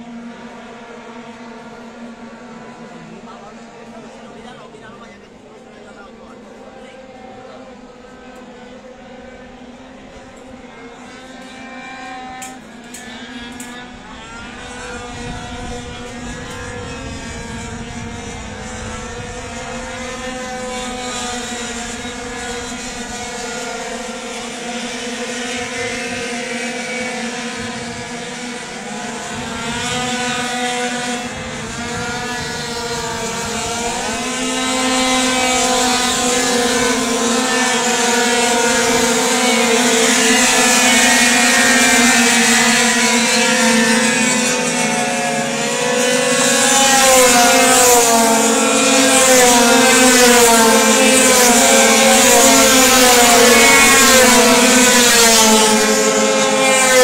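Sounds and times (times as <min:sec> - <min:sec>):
racing scooter engines revving: 0:00.0 - 0:57.0.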